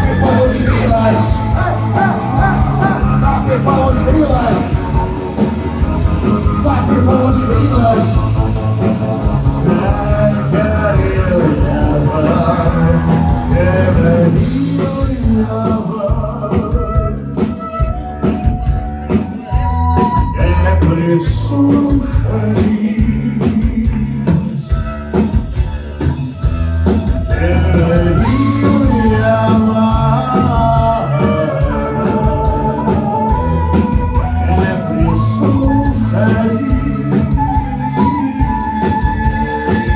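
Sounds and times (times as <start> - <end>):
person singing: 0.0 - 8.8, 9.4 - 39.9
rock band playing live: 0.0 - 39.9.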